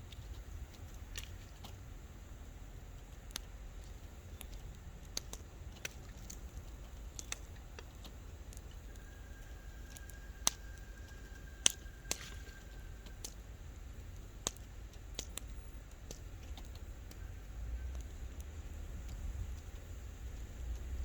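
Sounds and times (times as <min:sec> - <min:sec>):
bonfire crackling and popping: 0:00.0 - 0:21.0
low steady rumble: 0:00.0 - 0:21.0.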